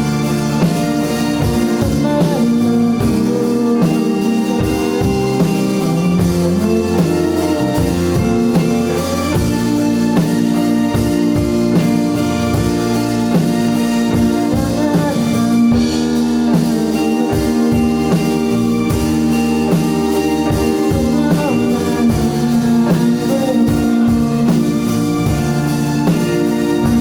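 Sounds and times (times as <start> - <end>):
live band playing pop-rock: 0.0 - 27.0.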